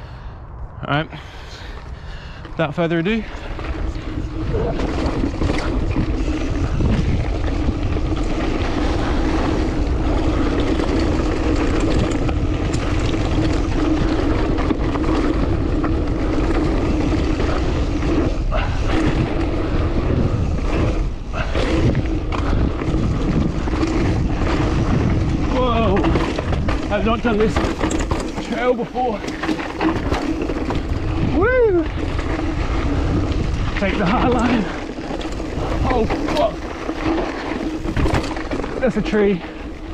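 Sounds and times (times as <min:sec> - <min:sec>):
bike rattling over rocks: 0:02.5 - 0:39.9
tyre rumble: 0:03.2 - 0:39.9
wind on microphone: 0:03.3 - 0:28.4, 0:29.2 - 0:38.8.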